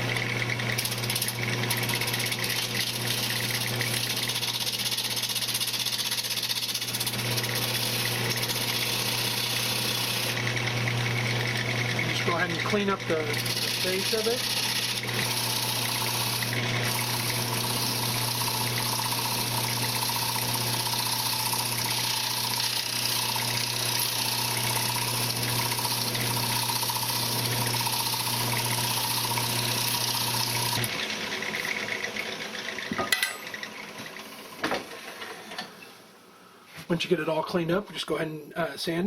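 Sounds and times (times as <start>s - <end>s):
wood lathe motor hum: 0.0s - 35.6s.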